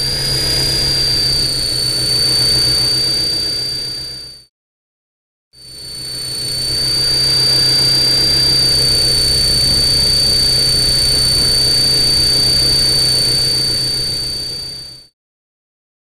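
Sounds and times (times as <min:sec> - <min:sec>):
model helicopter whine: 0:00.0 - 0:04.5, 0:05.6 - 0:15.1.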